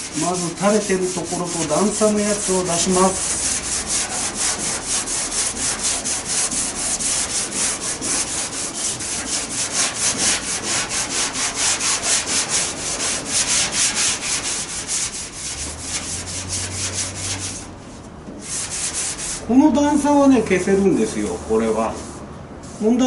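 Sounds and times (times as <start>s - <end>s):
sandpaper scraping back and forth: 0.0s - 17.7s, 18.4s - 20.1s, 20.7s - 23.0s.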